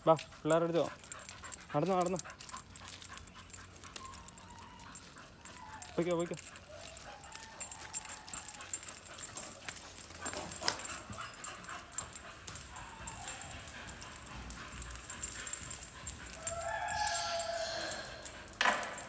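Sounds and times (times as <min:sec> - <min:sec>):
chain leash clinking: 0:00.0 - 0:19.0
dog whimpering: 0:00.6 - 0:09.6, 0:10.2 - 0:18.5.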